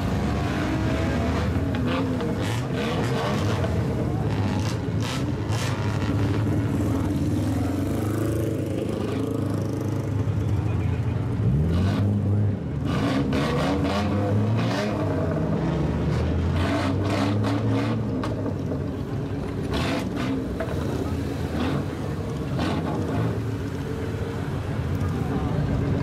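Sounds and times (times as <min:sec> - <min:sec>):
car engine revving: 0:00.0 - 0:10.2, 0:11.3 - 0:23.8.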